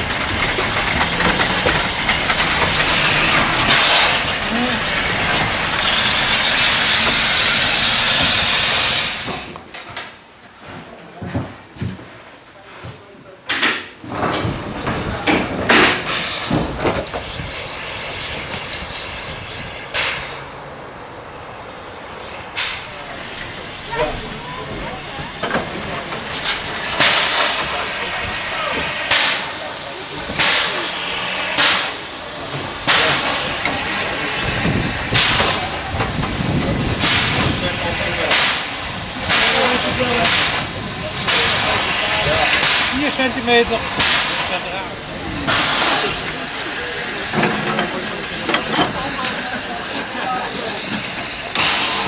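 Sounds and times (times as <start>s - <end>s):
steam hissing: 0.0s - 9.6s, 14.4s - 52.0s
steam locomotive chuffs: 0.0s - 9.6s, 14.0s - 52.0s.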